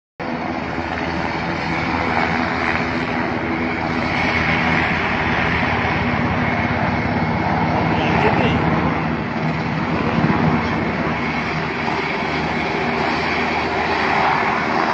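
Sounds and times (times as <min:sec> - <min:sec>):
helicopter engines and rotor: 0:00.2 - 0:14.9.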